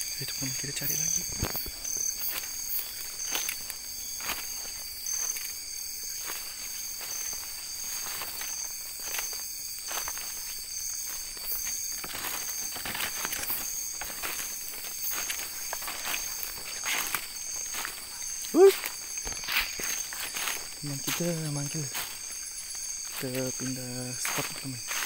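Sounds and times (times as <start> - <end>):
footsteps rustling through undergrowth: 0.0 - 25.0
night insect chorus: 0.0 - 25.0
pulsing insect call: 0.0 - 25.0.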